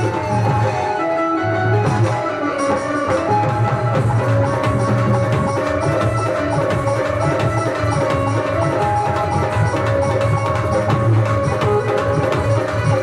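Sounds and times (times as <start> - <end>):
hand drum rhythm: 0.0 - 1.0, 1.7 - 13.0
banjo melody: 0.0 - 13.0
electronic keyboard melody: 0.0 - 13.0.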